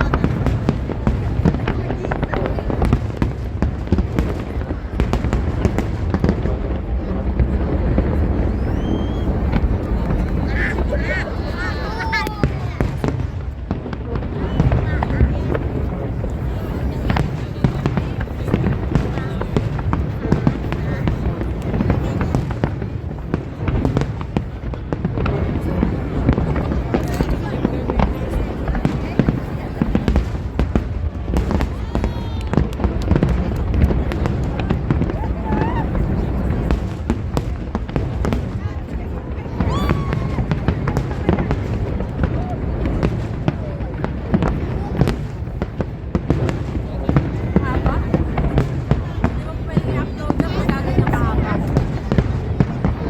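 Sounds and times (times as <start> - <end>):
distant firework bursts rumbling: 0.0 - 53.0
fireworks bangs and crackles: 0.0 - 53.0.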